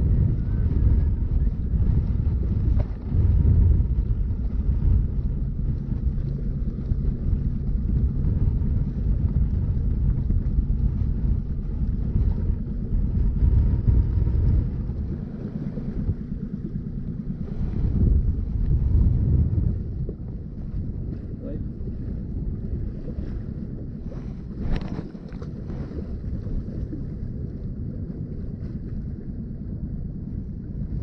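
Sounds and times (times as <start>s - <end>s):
boat motor running: 0.0s - 31.0s
wind rumbling on microphone: 0.0s - 31.0s.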